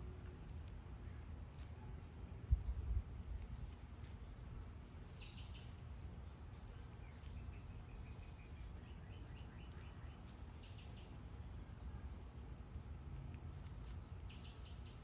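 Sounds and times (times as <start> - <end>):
low outdoor rumble: 0.0 - 15.0
small birds chirping: 0.1 - 12.1, 12.7 - 15.0.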